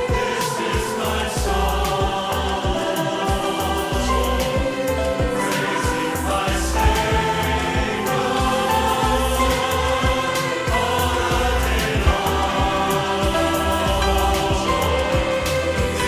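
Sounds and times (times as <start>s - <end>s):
choir singing held notes: 0.0s - 16.0s
steady drum beat: 0.0s - 16.0s.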